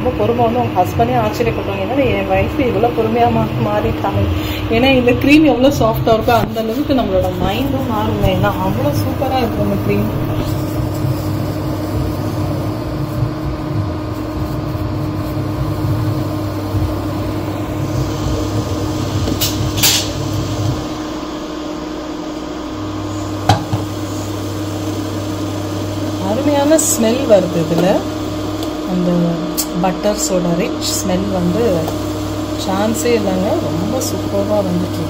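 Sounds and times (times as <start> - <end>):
cooling fan: 0.0 - 35.0
induction cooktop electrical hum: 0.0 - 35.0.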